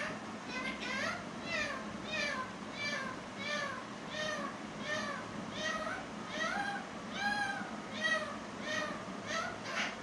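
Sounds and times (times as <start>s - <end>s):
parakeet calling: 0.0s - 10.0s.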